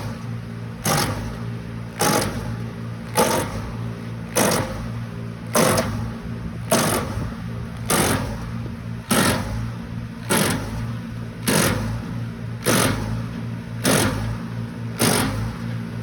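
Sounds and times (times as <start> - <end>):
wood chipper crunching: 0.0 - 16.0
wood chipper engine running: 0.0 - 16.0.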